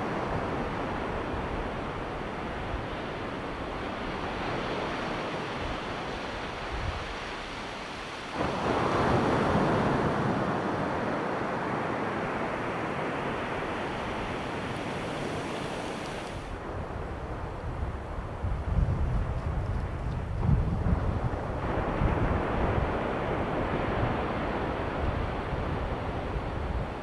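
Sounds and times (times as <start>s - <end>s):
waves washing on beach: 0.0s - 19.3s, 20.8s - 27.0s.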